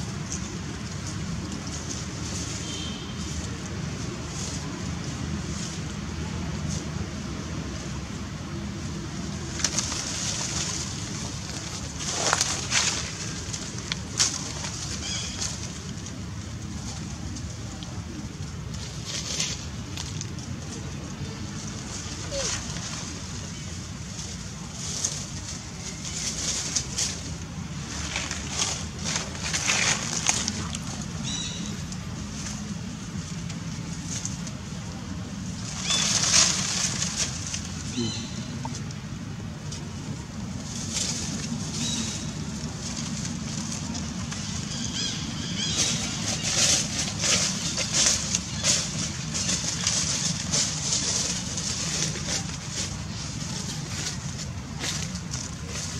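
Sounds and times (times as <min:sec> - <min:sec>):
dry leaves crackling and rustling: 0:00.0 - 0:55.9
steady low rumble: 0:00.0 - 0:55.9.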